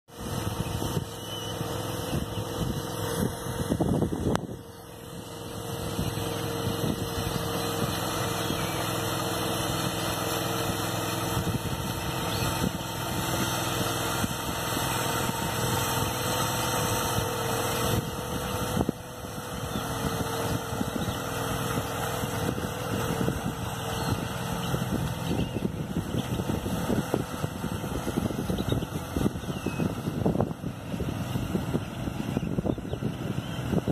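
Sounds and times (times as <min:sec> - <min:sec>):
churning water: 0:00.1 - 0:33.9
tractor engine running: 0:00.1 - 0:33.9.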